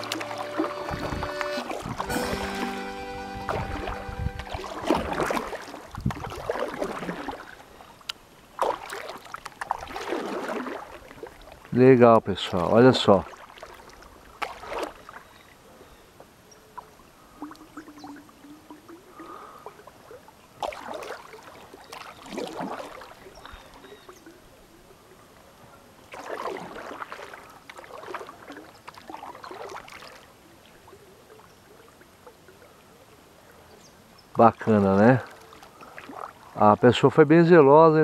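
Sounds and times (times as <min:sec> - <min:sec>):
paddle splashing in calm water: 0:00.0 - 0:36.6.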